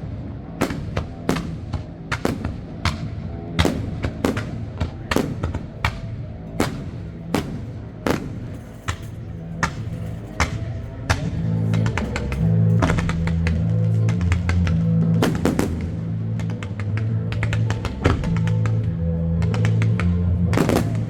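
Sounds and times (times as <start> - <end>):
fireworks sharp bangs: 0.4 - 21.0.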